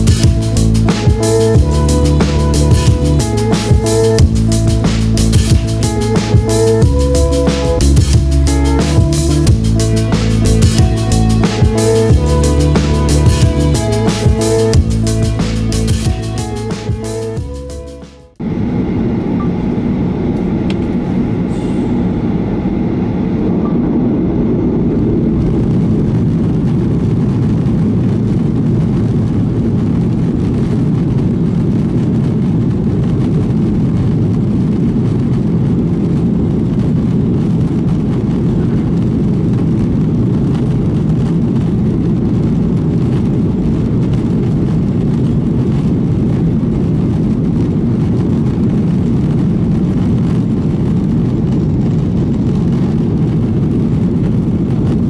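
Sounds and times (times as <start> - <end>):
jet engine cabin rumble: 0.0 - 17.5, 18.3 - 55.0.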